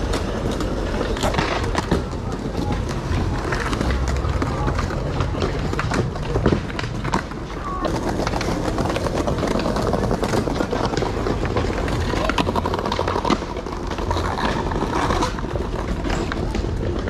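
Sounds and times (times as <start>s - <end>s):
people talking: 0.0s - 17.0s
skateboard wheels rolling on paving: 0.0s - 17.0s
skateboards knocking and clacking: 0.0s - 17.0s.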